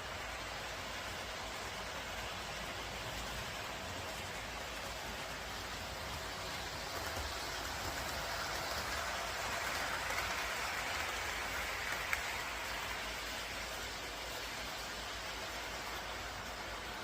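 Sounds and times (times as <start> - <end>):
steady hissing noise: 0.0 - 17.0.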